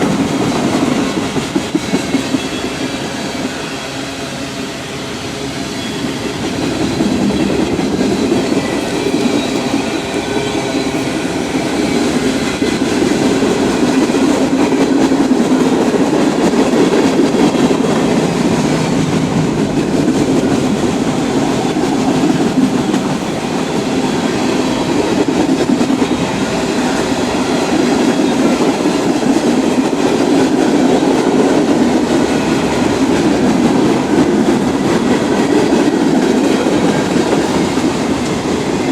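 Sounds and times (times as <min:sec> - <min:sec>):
freight train wheels rumbling: 0:00.0 - 0:38.9
train clattering over track: 0:00.0 - 0:38.9.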